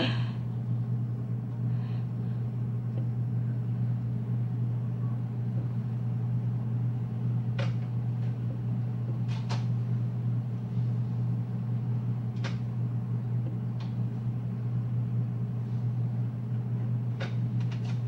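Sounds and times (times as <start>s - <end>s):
low hum of running motor: 0.0s - 18.0s.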